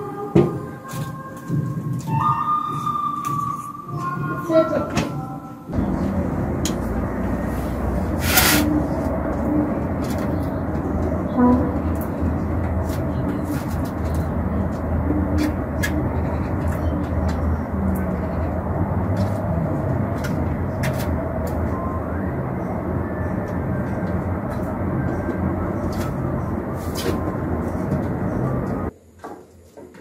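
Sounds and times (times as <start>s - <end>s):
distant traffic rumble: 1.5s - 28.9s.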